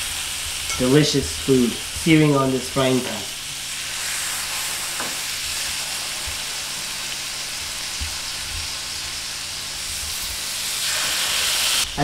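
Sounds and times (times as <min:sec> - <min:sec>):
fish sizzling in butter: 0:00.0 - 0:12.0.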